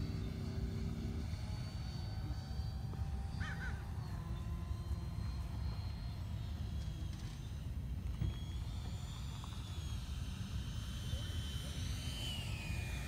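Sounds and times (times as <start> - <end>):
model jet fans whining: 0.0 - 13.0.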